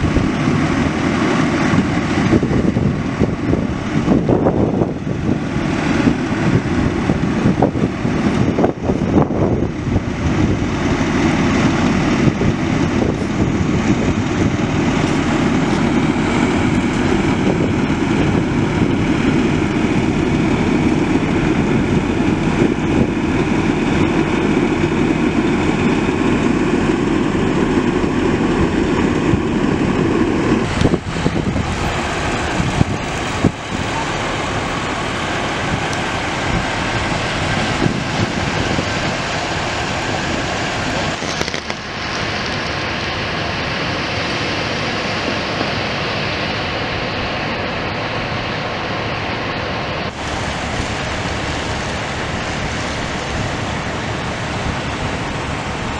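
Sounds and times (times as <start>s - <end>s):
diesel pump engine droning: 0.0s - 55.9s.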